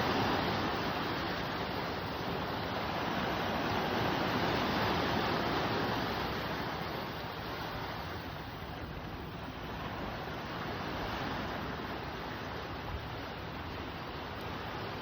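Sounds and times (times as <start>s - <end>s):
sea waves washing ashore: 0.0s - 15.0s
wind: 0.0s - 15.0s.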